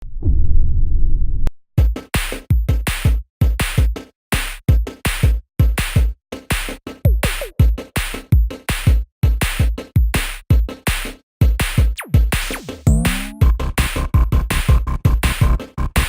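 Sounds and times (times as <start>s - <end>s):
electronic music with drum-machine beat: 1.8s - 16.0s.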